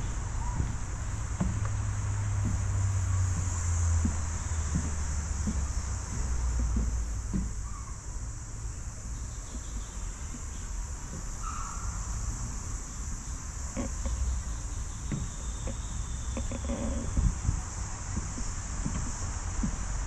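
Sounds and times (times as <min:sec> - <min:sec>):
high-pitched insect chorus: 0:00.0 - 0:20.0
wind rumble on microphone: 0:00.0 - 0:20.0.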